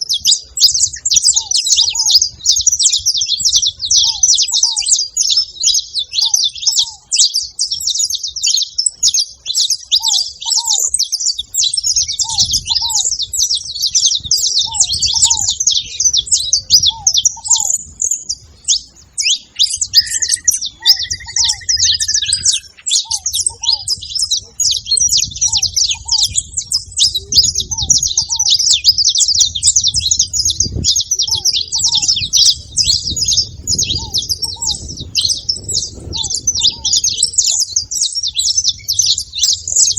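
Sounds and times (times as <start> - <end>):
finch chirping rapidly: 0.0 - 39.9.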